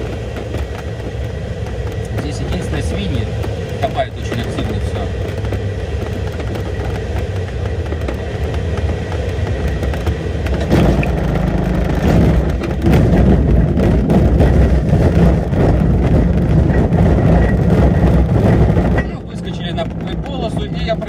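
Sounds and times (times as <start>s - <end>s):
wheel rumbling on grass: 0.0s - 21.0s.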